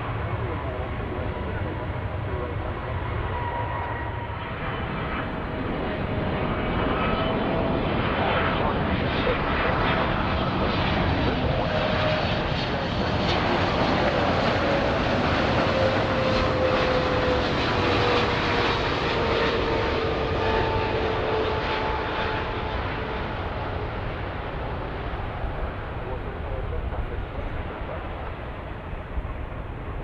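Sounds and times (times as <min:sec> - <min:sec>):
jet engines passing by: 0:00.0 - 0:30.0.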